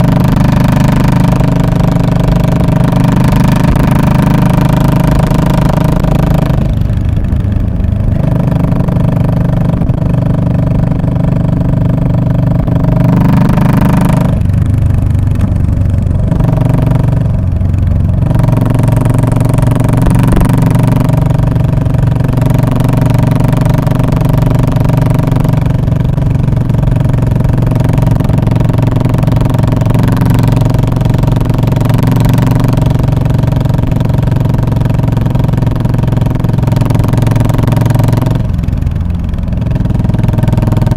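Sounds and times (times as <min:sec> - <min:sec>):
motorcycle engine exhaust: 0:00.0 - 0:40.9.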